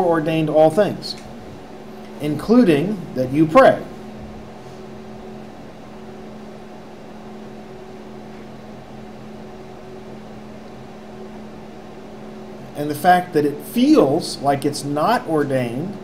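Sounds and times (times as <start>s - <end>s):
room tone hum and hiss: 0.0s - 16.0s.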